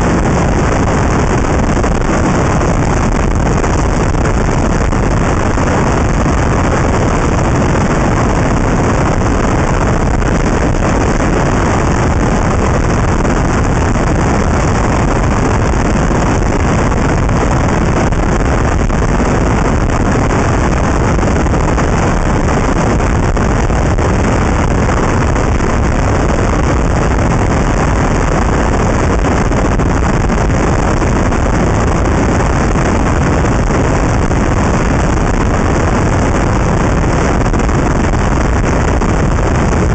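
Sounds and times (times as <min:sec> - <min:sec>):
road and tyre noise: 0:00.0 - 0:39.9
wind rush on microphone: 0:00.0 - 0:39.9.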